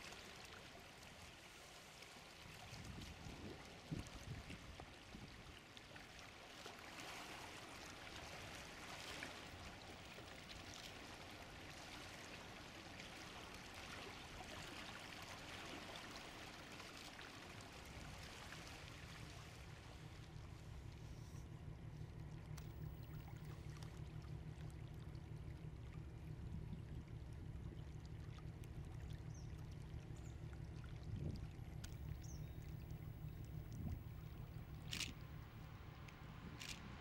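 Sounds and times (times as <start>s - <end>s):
water lapping along a shoreline: 0.0s - 37.0s.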